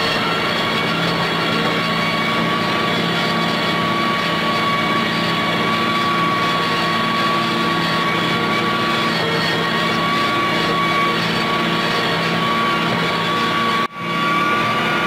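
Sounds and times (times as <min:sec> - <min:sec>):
tractor engine running: 0:00.0 - 0:14.0
rotary mower cutting grass: 0:00.0 - 0:15.0.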